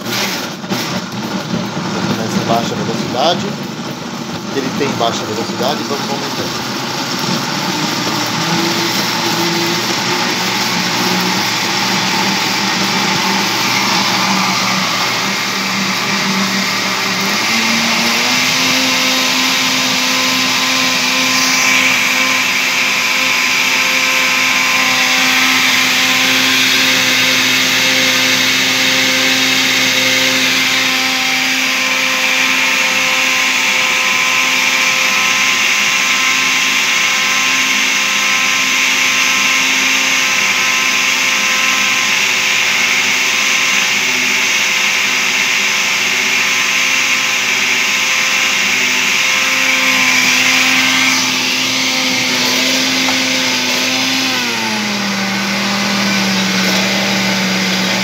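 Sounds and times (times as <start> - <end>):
blender motor whining: 0.0 - 58.0.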